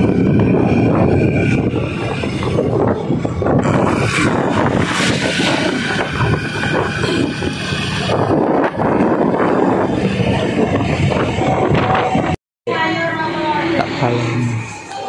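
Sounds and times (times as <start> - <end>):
wind buffeting microphone: 0.0 - 13.0
motorbike engine and road rumble: 0.0 - 15.0.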